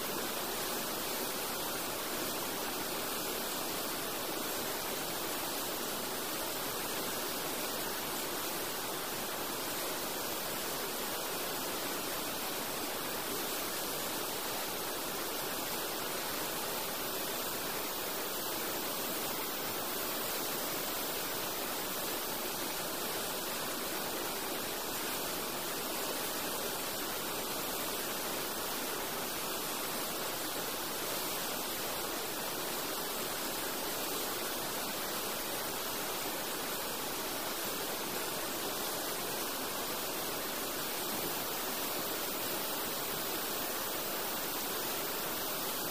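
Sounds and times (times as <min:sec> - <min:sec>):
river rushing: 0:00.0 - 0:45.9.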